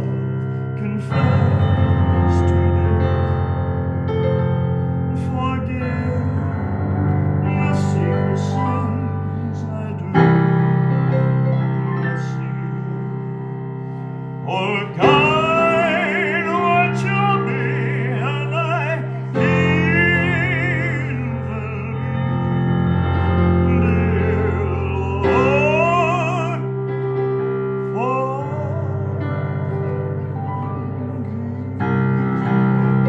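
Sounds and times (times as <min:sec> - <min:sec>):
person singing with vibrato: 0:00.0 - 0:33.0
piano chords: 0:00.0 - 0:33.0.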